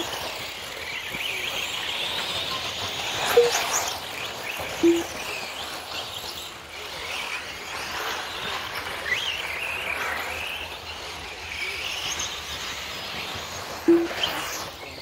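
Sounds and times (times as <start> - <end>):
rc car motor whine: 0.0 - 15.0.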